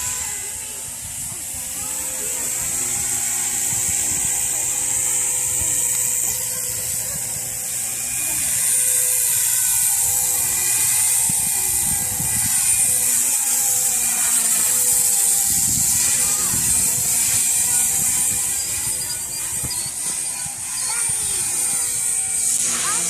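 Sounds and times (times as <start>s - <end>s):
wind rumbling on microphone: 0.0s - 7.8s, 9.8s - 13.6s, 14.4s - 22.6s
rc helicopter motor whine: 0.0s - 23.0s.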